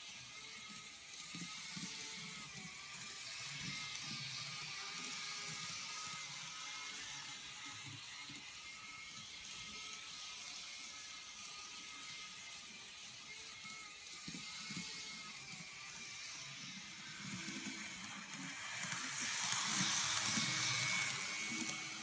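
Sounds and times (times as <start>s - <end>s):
model train motor whirring: 0.0s - 22.0s.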